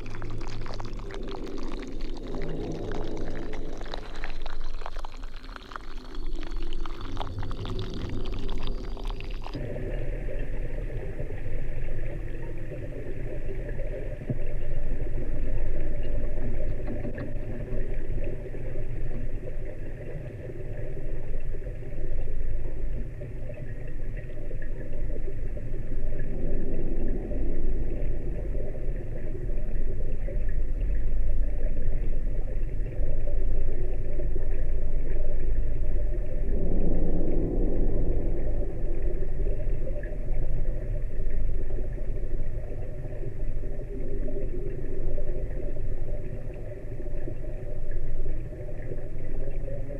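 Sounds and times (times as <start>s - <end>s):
churning water underwater: 0.0s - 49.9s
low rumble with droning hum: 0.0s - 49.9s.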